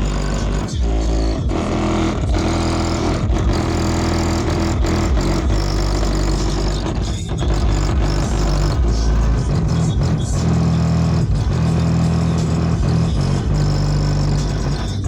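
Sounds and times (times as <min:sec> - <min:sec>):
deep bass from car stereo: 0:00.0 - 0:15.0.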